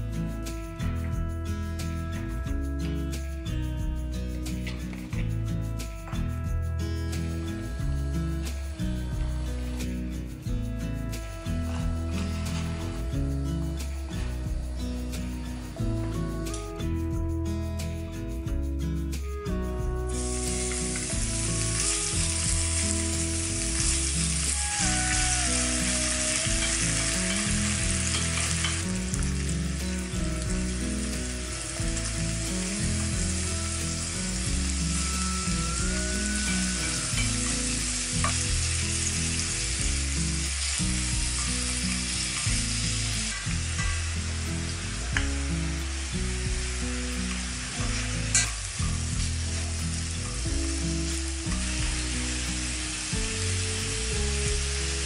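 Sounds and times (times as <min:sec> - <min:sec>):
bacon and shrimp sizzling: 0:07.0 - 0:16.7, 0:20.0 - 0:55.0.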